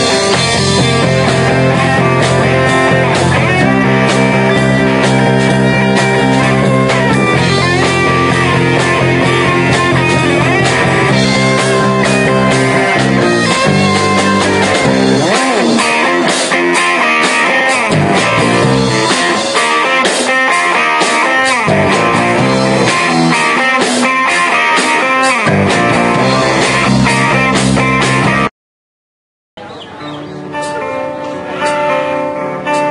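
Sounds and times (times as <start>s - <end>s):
live rock band playing: 0.0s - 28.5s, 29.9s - 32.9s.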